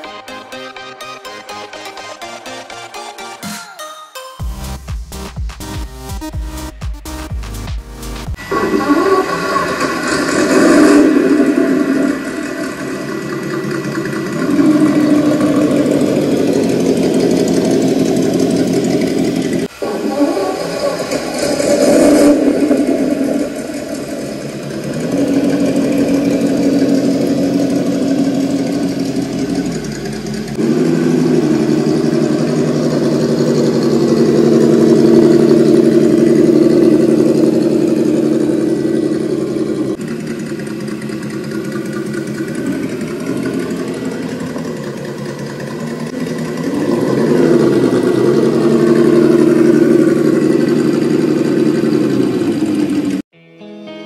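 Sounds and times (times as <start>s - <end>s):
engine running: 8.0s - 53.3s.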